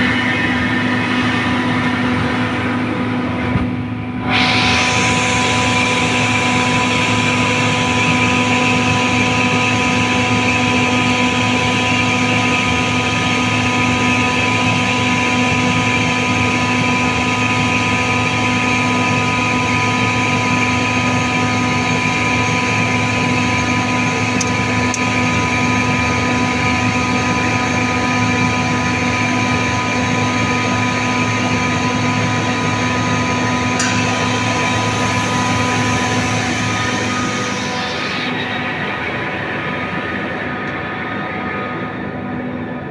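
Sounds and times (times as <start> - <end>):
compressor humming with whine: 0.0 - 42.9.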